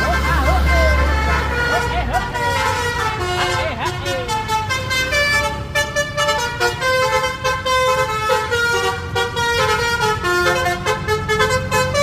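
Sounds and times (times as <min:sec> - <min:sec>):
musical air horn melody: 0:00.0 - 0:12.0.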